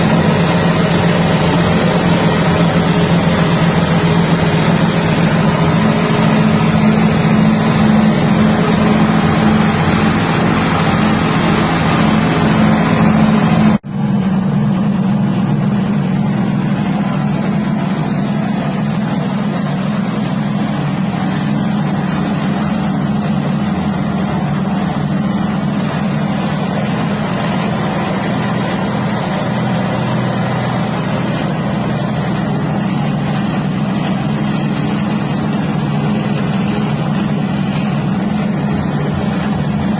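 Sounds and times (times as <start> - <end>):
shelling machine drone and rattle: 0.0 - 39.9.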